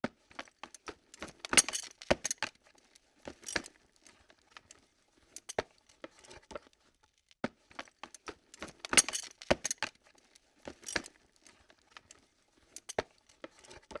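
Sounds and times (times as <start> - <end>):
camera lens clicks and rattles: 0.4 - 6.8, 7.8 - 14.0.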